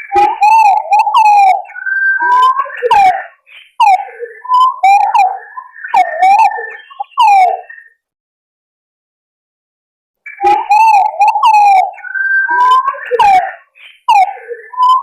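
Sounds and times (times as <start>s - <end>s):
pigeons calling with whistled notes: 0.0s - 8.0s, 10.2s - 15.0s.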